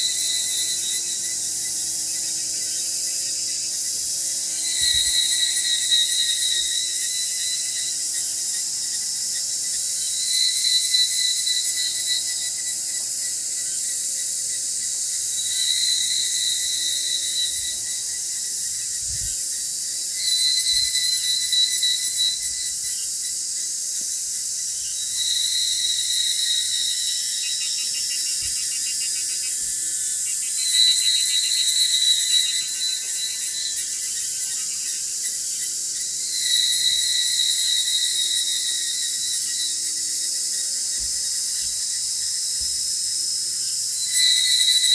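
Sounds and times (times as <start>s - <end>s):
cicadas buzzing in chorus: 0.0s - 44.9s.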